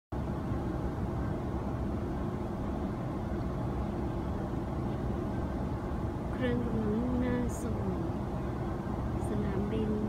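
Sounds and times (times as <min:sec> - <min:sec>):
airliner cabin engine roar: 0:00.1 - 0:10.0
faint steady hum: 0:00.1 - 0:10.0.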